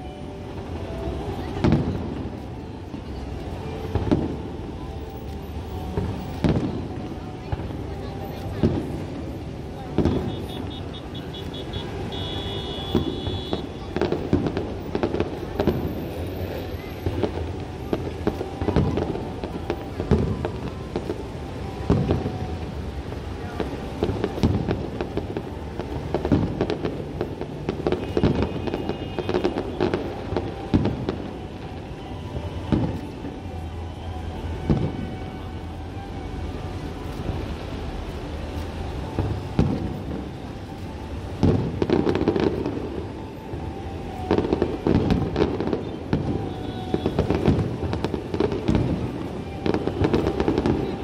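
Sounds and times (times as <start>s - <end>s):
fireworks crackling: 0.0s - 51.0s
distant fireworks booming: 0.5s - 4.8s, 5.8s - 33.6s, 34.4s - 35.4s, 39.0s - 40.5s, 41.3s - 51.0s.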